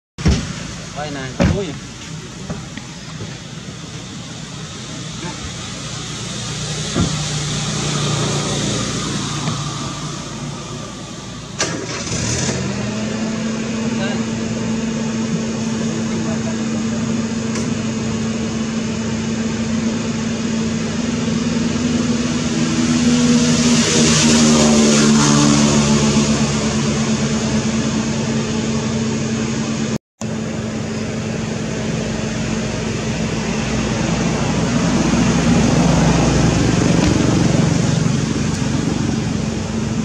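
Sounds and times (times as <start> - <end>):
vehicle engine passing by: 2.7 - 30.0, 30.6 - 40.0.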